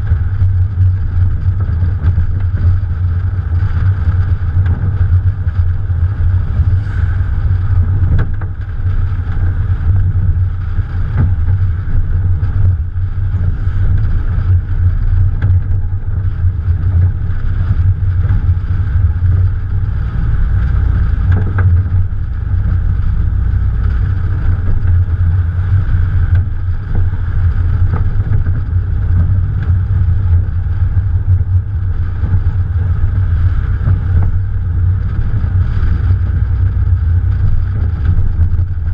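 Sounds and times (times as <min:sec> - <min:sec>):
car engine running: 0:00.0 - 0:38.9
wind and road noise: 0:00.0 - 0:38.9.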